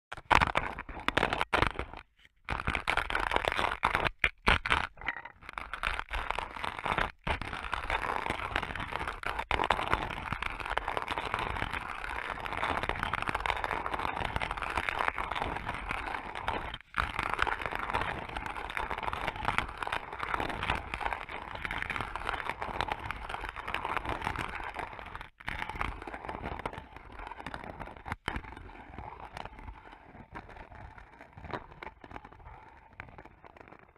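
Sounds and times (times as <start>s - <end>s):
coffee grinder crunching beans: 0.1s - 33.9s.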